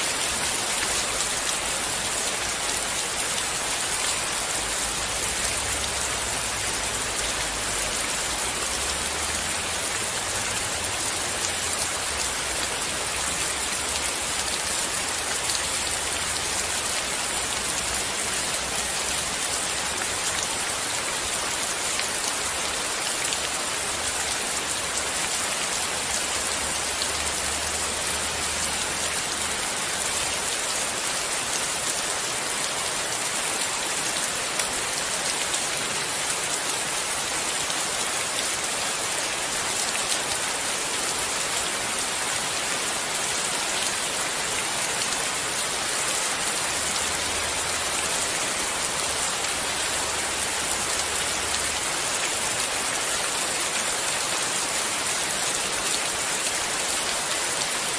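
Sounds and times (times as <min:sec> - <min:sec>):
steady rainfall: 0:00.0 - 0:57.9.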